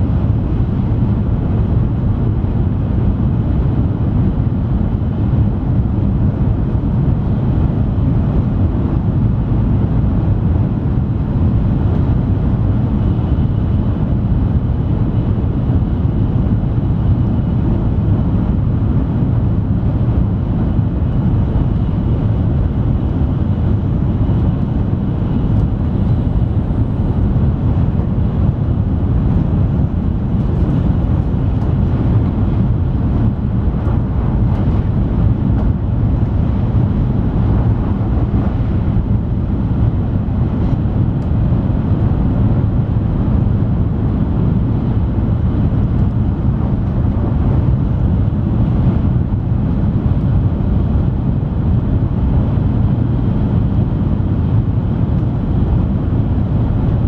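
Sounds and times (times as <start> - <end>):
train interior low rumble: 0.0 - 57.0.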